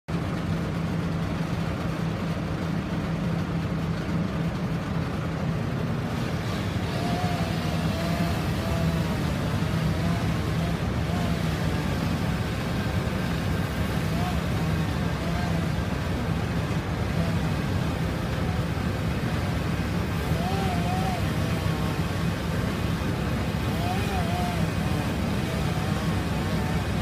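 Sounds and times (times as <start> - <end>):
engine running steadily: 0.1 - 27.0.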